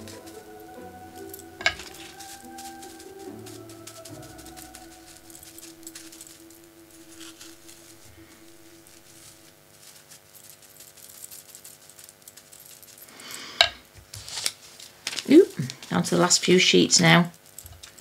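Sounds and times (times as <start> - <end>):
brush crackling ticks on leaf: 0.0 - 13.4, 14.1 - 16.6
low steady hum: 0.0 - 18.0.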